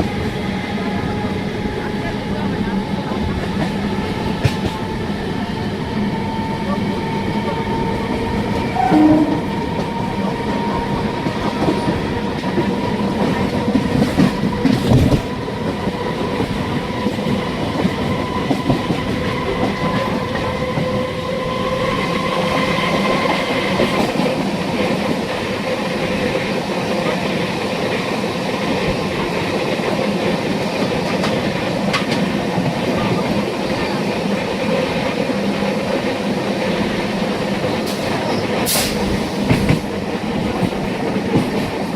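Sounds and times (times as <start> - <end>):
electric train whine: 0.0 - 41.9
wheels clacking on rails: 0.0 - 41.9.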